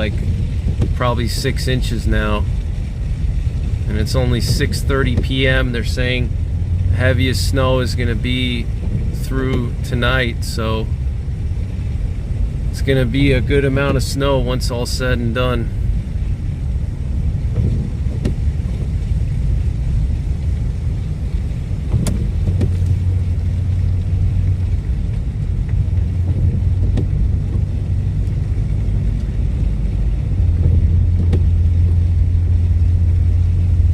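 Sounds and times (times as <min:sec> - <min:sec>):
deep hum: 0:00.0 - 0:33.9
road and engine rumble: 0:00.0 - 0:33.9.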